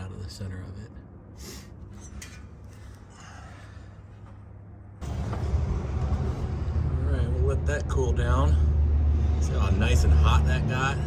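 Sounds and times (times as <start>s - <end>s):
low hum: 1.0s - 11.0s.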